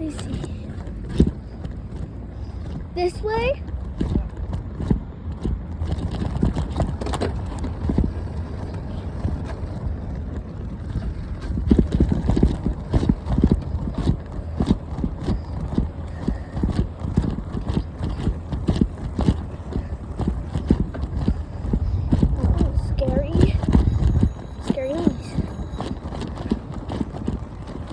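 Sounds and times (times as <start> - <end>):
bicycle rattling and clattering: 0.0 - 27.9
tyre rumble: 0.0 - 27.9
wind on microphone: 0.0 - 27.9.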